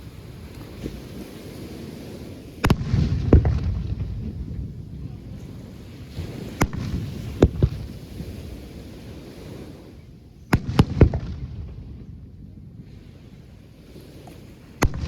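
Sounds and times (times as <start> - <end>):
fireworks bangs: 0.0 - 8.8, 10.5 - 13.2, 14.2 - 15.0.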